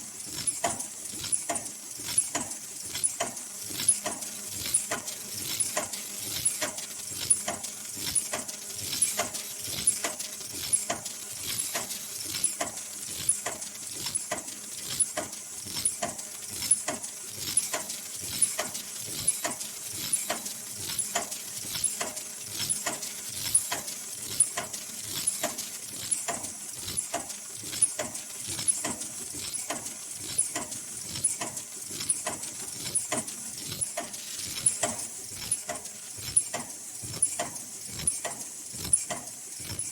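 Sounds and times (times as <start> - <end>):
machine rhythmic clacking: 0.0 - 39.9.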